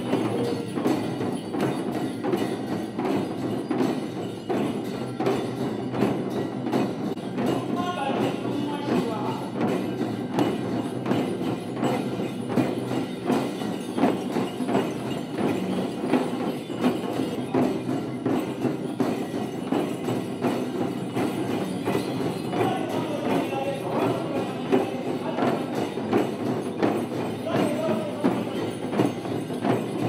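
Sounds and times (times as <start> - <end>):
brass bells jingling: 0.0 - 30.0
frame drums beaten in fast rhythm: 0.0 - 30.0.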